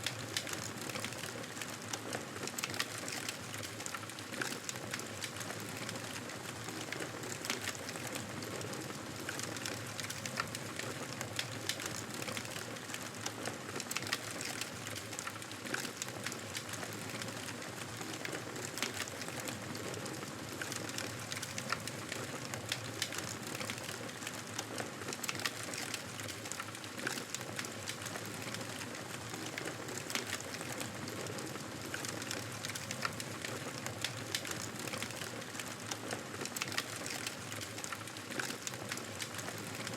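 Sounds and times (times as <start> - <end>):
campfire crackling and hissing: 0.0 - 39.9.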